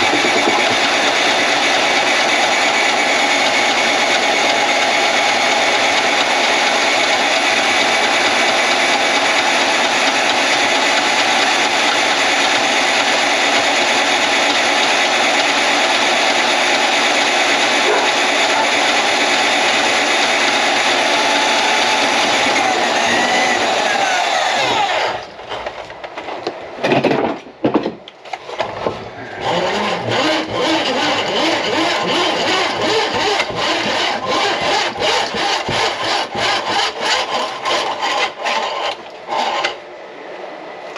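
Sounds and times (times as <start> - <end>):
drain-cleaning machine motor: 0.0 - 25.8, 28.4 - 39.8.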